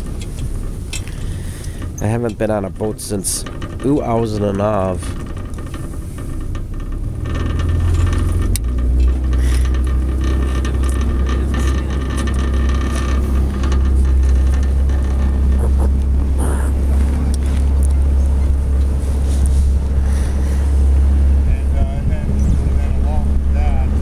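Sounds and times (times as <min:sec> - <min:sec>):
outboard motor droning: 0:00.0 - 0:24.0.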